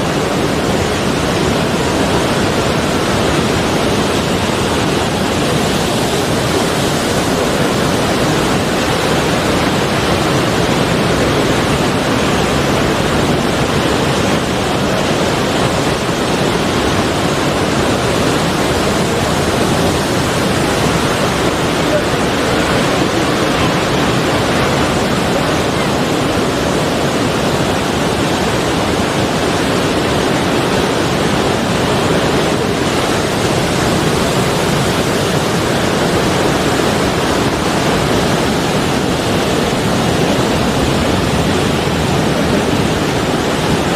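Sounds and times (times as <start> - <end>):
sea surf rushing: 0.0 - 43.9.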